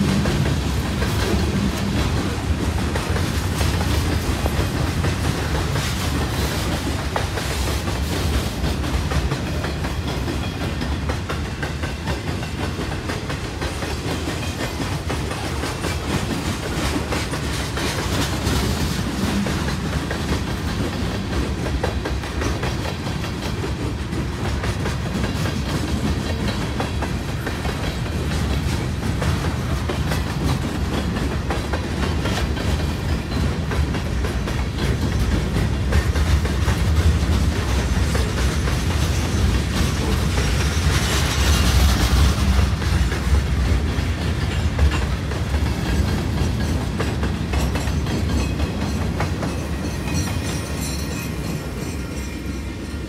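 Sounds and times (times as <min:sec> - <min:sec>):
low train rumble: 0:00.0 - 0:53.0
train wheels clickety-clack: 0:00.0 - 0:53.0.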